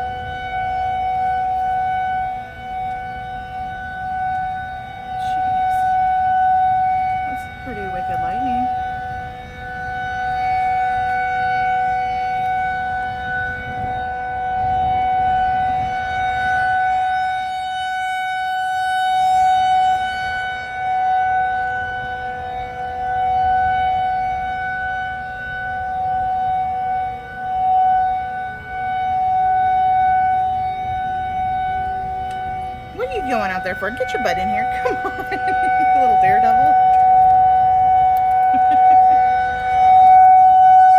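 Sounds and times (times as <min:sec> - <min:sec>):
lower siren tone gliding down: 0:00.0 - 0:40.9
tornado siren wailing: 0:00.0 - 0:40.9.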